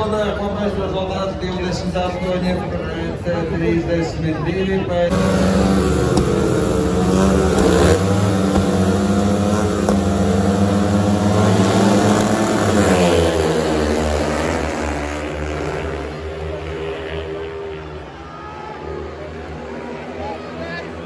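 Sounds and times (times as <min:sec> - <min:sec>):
motorbike engines revving: 0:00.0 - 0:21.0.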